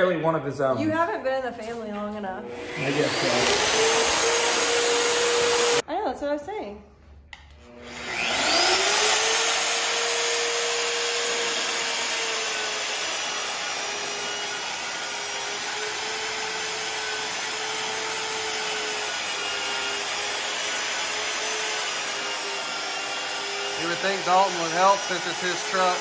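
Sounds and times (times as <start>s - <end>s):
magnetic drill press boring steel: 2.6s - 5.8s, 7.9s - 26.0s.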